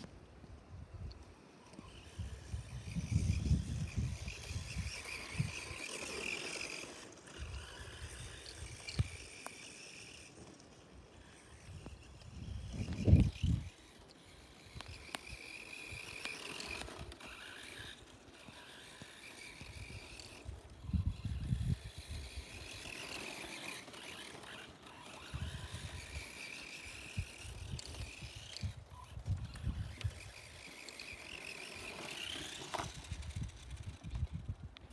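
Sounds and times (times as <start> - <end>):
toy truck motor whining: 0.7 - 34.9.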